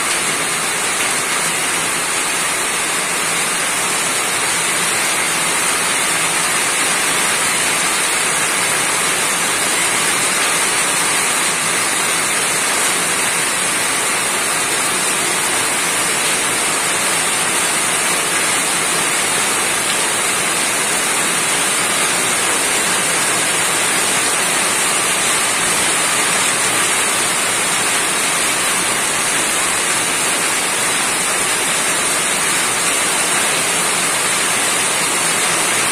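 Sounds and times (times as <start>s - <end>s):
rain on a roof: 0.0s - 35.9s.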